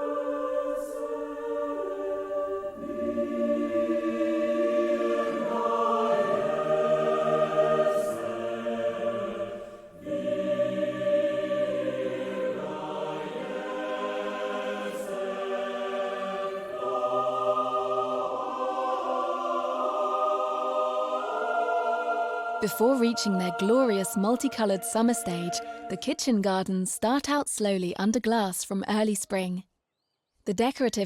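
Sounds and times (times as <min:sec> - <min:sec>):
choir singing slow chords: 0:00.0 - 0:26.2.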